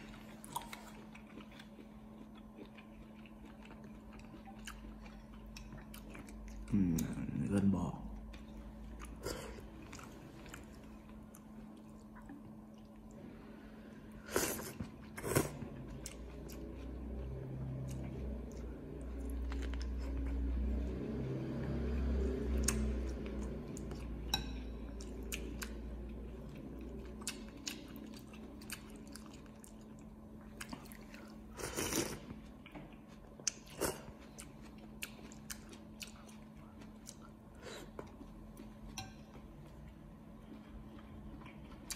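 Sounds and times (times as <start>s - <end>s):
person chewing noodle soup: 0.0s - 7.4s, 8.0s - 21.1s, 21.7s - 41.9s
faint steady hum: 0.0s - 41.9s.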